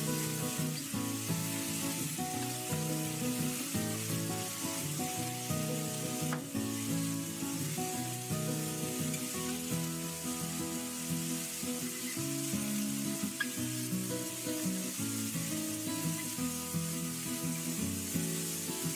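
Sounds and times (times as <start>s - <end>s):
food sizzling in frying pan: 0.0s - 18.9s.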